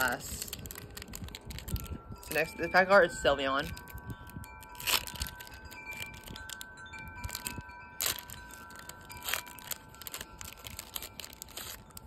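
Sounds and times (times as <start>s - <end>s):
foil pack crinkling: 0.0s - 12.0s
ringing chime tones: 1.9s - 12.0s.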